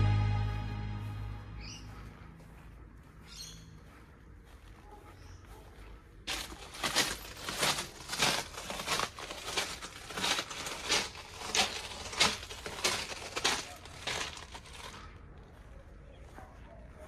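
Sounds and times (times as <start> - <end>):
footsteps on gravel: 1.0 - 17.0.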